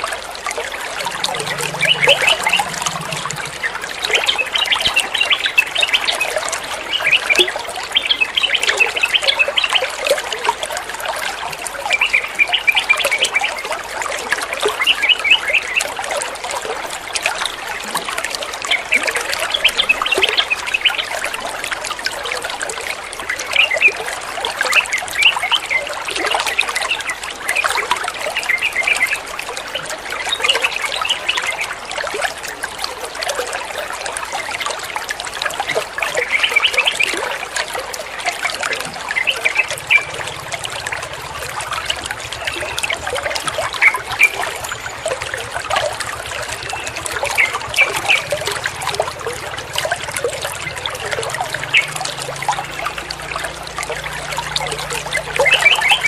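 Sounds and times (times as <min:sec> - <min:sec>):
water drips and gurgles: 0:00.0 - 0:56.0
water trickling and splashing: 0:00.0 - 0:56.0.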